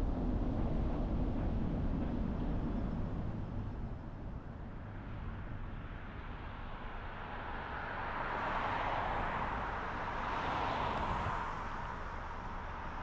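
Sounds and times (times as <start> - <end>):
road rumble from a moving car: 0.0 - 13.0.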